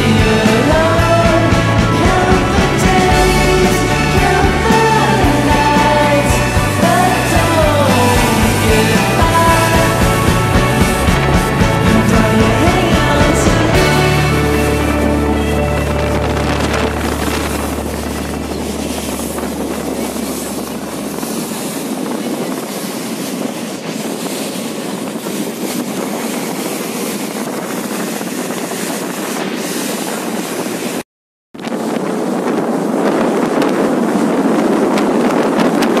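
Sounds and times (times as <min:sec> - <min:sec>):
water rushing along hull: 0:00.0 - 0:31.0, 0:31.6 - 0:36.0
wind buffeting microphone: 0:00.0 - 0:31.0, 0:31.6 - 0:36.0.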